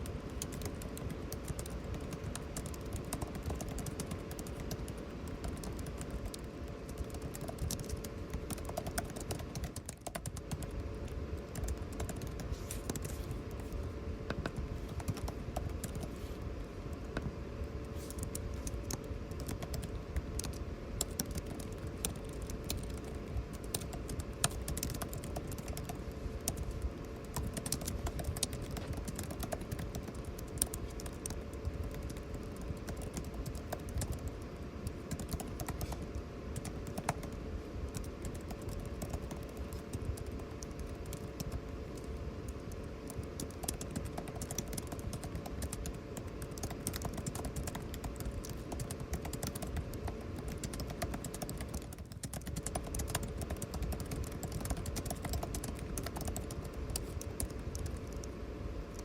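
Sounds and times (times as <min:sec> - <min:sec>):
typing on computer keyboard: 0:00.0 - 0:13.2, 0:14.3 - 0:16.1, 0:18.0 - 0:59.0
air conditioning hum: 0:00.0 - 0:59.0.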